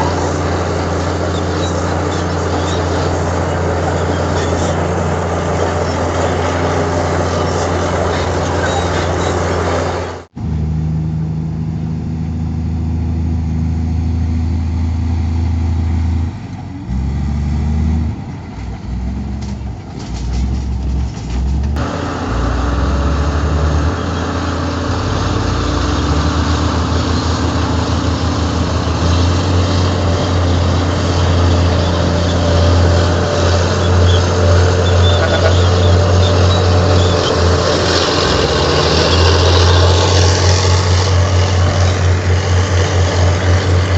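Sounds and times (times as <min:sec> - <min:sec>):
heavy diesel machinery engine drone: 0:00.0 - 0:43.9.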